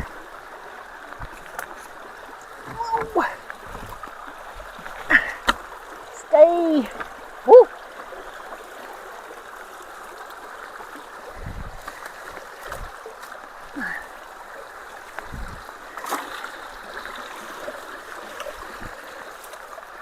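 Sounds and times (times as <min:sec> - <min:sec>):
water rushing through culvert: 0:00.0 - 0:20.0.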